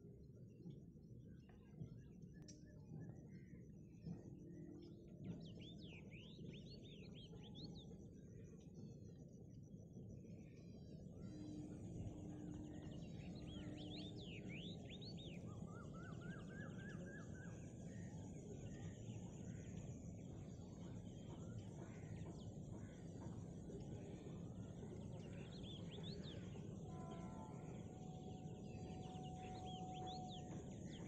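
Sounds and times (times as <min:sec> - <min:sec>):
low background noise: 0:00.0 - 0:31.0.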